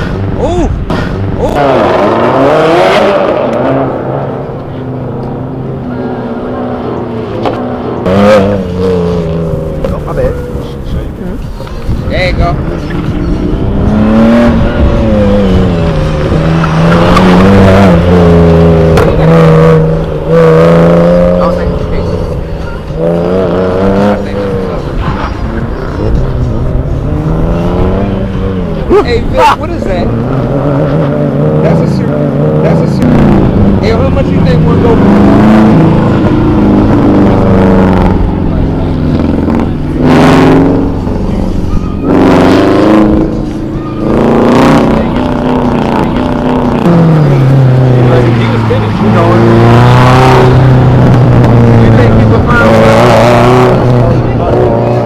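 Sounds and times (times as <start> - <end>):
car engine revving hard: 0.0 - 11.1, 12.1 - 55.0.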